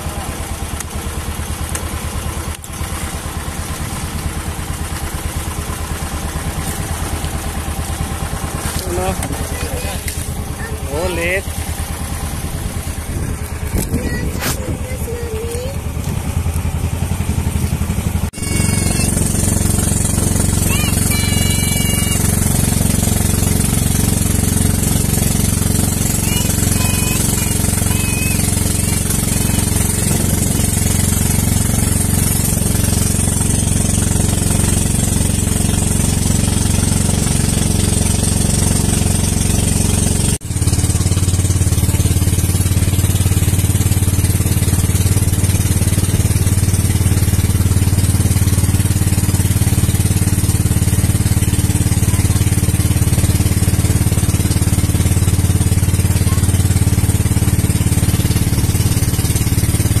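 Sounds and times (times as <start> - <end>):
boat engine droning: 0.0 - 60.0.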